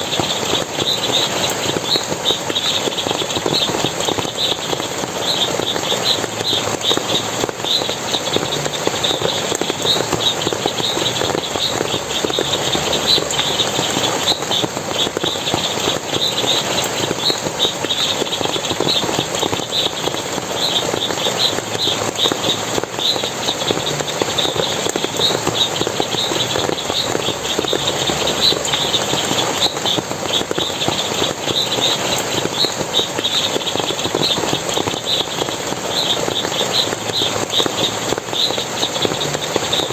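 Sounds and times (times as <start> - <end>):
water splashing: 0.0 - 39.9.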